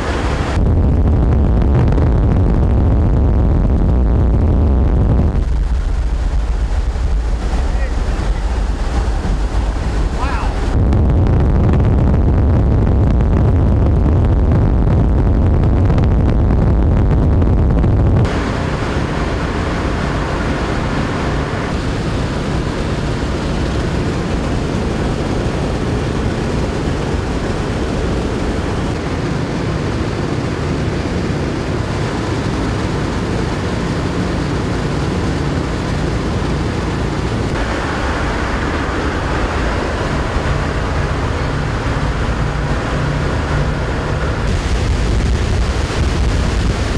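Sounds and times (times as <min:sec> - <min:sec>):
propeller aircraft engines droning: 0:00.0 - 0:14.9, 0:18.2 - 0:46.9
rushing air noise: 0:00.0 - 0:46.9.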